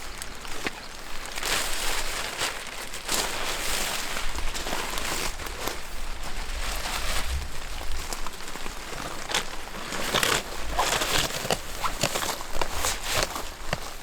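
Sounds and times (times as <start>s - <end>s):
rain falling: 0.0s - 11.4s
crinkling rustles: 0.0s - 14.0s.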